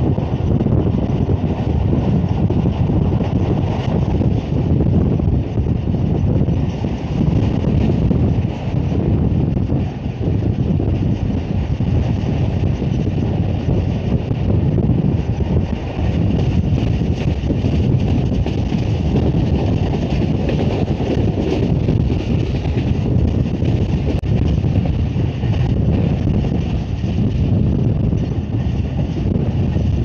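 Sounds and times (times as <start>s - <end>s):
train wheels rumbling on track: 0.0s - 30.0s
wind on microphone: 0.0s - 30.0s.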